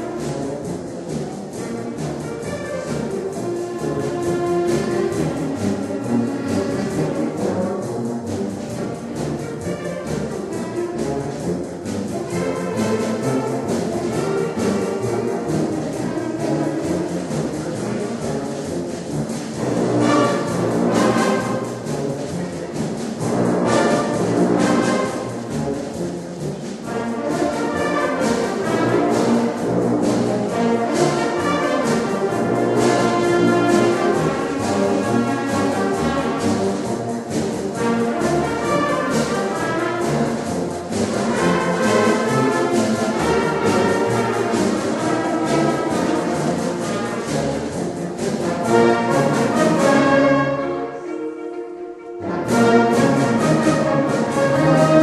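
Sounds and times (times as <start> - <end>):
orchestral music led by brass: 0.0 - 55.0.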